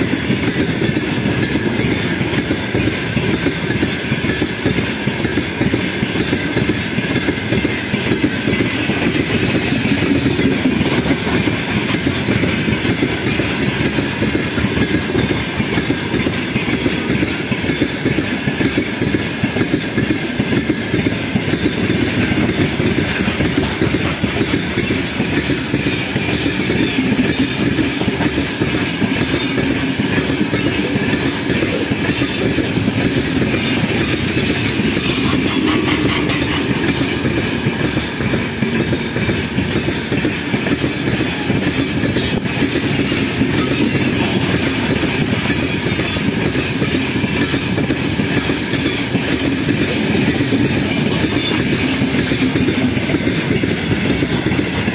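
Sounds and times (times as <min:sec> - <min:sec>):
steel wheels rumbling on rails: 0:00.0 - 0:54.9.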